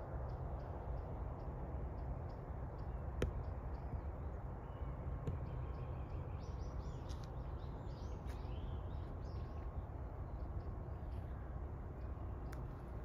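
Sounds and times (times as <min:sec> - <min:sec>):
steady low rumble: 0:00.0 - 0:13.0
small birds chirping: 0:00.2 - 0:13.0.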